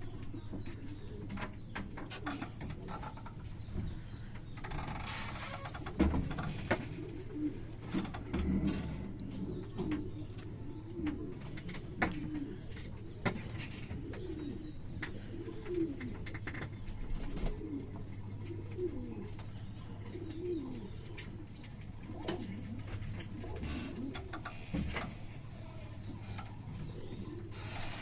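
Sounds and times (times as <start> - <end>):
birds cooing: 0.0 - 28.0.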